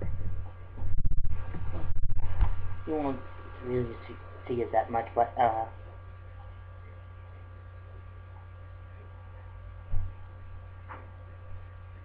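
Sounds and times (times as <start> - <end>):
electrical mains hum: 0.0 - 12.0
faint electronic whine: 0.0 - 12.0.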